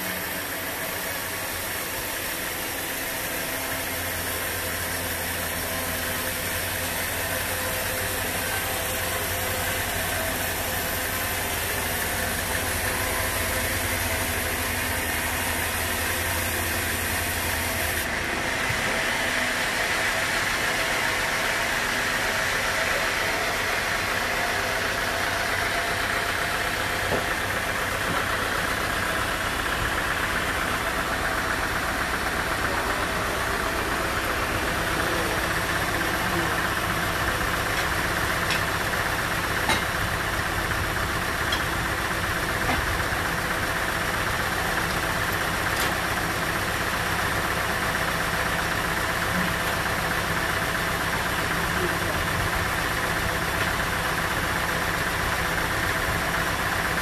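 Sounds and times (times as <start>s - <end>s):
band sawmill cutting log: 0.0s - 57.0s.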